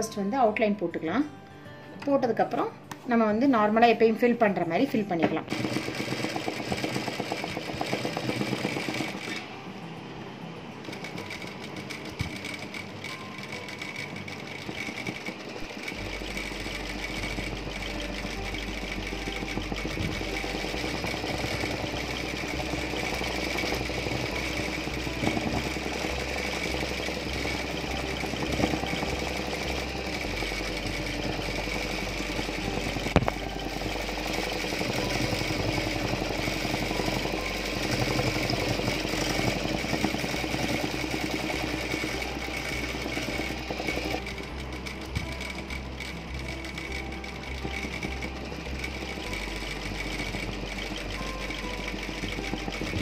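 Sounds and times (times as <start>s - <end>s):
sewing machine stitching: 5.2s - 9.6s, 10.8s - 53.0s.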